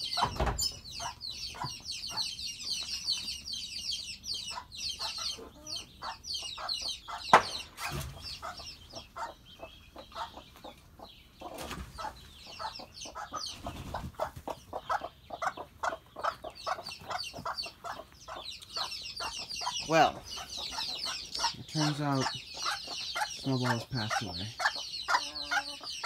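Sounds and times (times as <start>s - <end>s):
chicks peeping: 0.0s - 26.0s
hens clucking: 0.0s - 26.0s.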